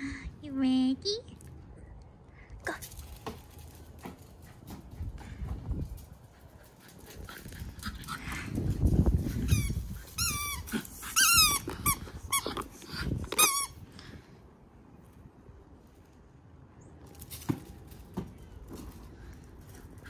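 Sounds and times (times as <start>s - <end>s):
low rumble of movement: 1.2s - 20.0s.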